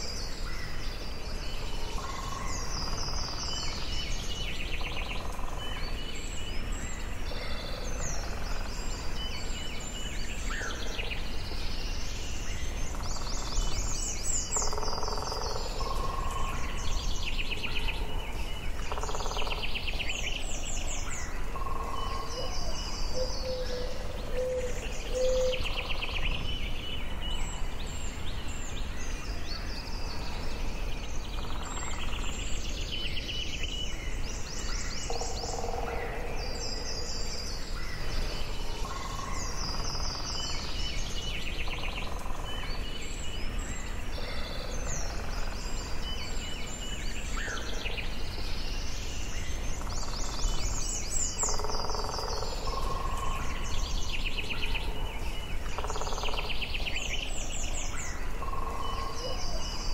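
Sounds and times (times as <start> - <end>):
birds singing and calling: 0.0 - 59.9
low background noise: 0.0 - 59.9.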